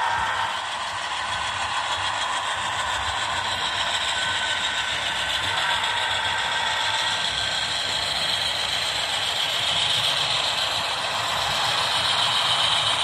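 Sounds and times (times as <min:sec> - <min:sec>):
model train clattering on rails: 0:00.5 - 0:13.0.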